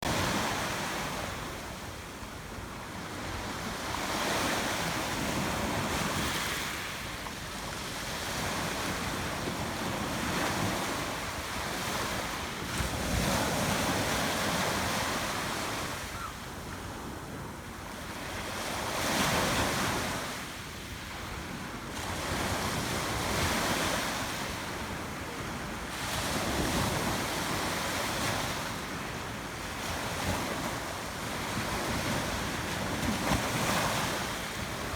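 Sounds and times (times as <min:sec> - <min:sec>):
waves breaking on shore: 0:00.1 - 0:16.3, 0:18.0 - 0:34.9.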